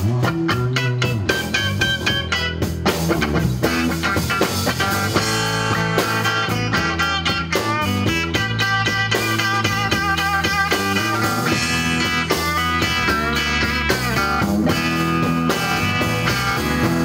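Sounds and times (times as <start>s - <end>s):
electric guitar lines: 0.0s - 17.0s
rock band playing: 0.0s - 17.0s.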